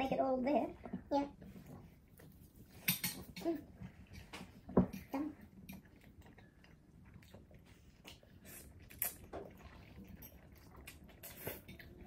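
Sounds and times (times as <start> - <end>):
soft chewing: 0.5 - 12.0.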